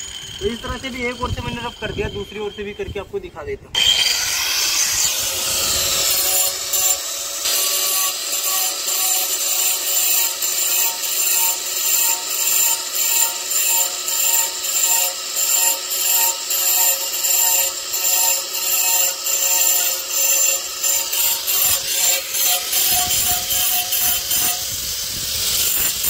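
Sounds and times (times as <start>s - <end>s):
angle grinder grinding stone: 0.0s - 2.8s, 3.8s - 26.0s
grinder motor whine: 0.0s - 2.8s, 3.8s - 26.0s.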